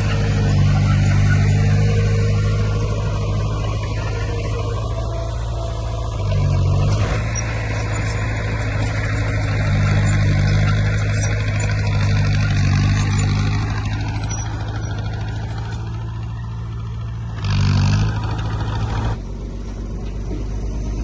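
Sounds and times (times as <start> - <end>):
heavy diesel engine droning: 0.0 - 21.0.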